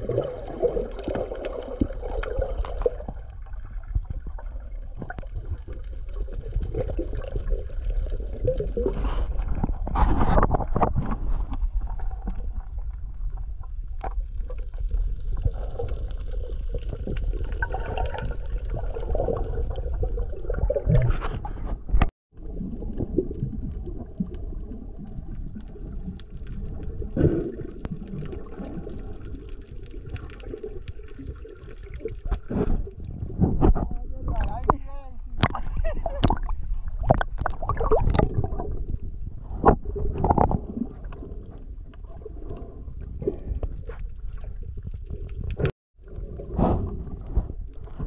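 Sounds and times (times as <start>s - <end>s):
muffled rumble of moving water: 0.0s - 48.0s
underwater bubbling: 0.0s - 48.0s.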